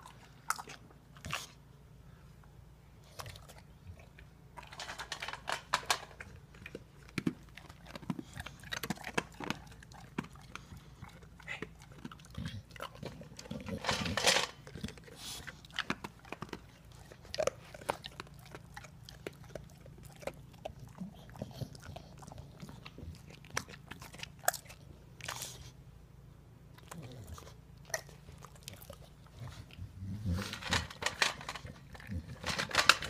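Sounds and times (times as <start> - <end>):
dog crunching and chewing food: 0.0 - 1.7, 3.0 - 25.8, 26.7 - 33.0.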